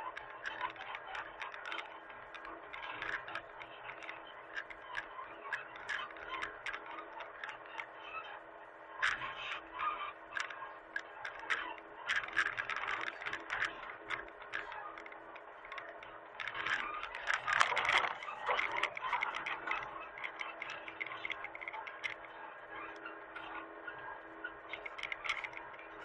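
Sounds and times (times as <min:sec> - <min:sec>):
clicking and rattling: 0:00.0 - 0:07.9, 0:09.0 - 0:23.6, 0:24.3 - 0:26.0.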